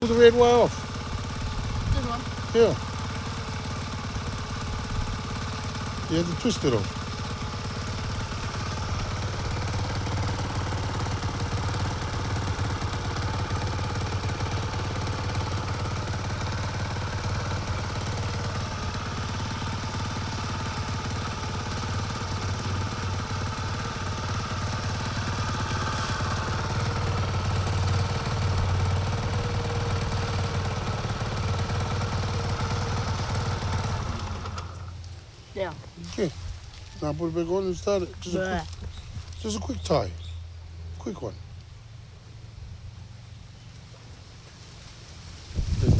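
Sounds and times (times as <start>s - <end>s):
motorbike engine idling: 0.0s - 45.9s.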